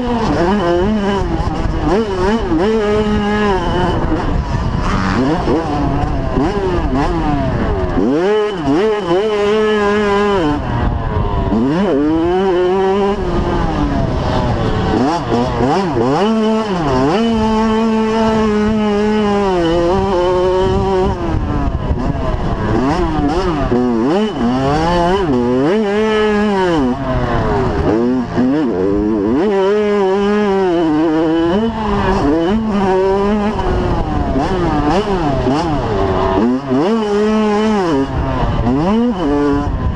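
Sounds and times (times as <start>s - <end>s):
two-stroke motorbike engine revving: 0.0s - 39.9s.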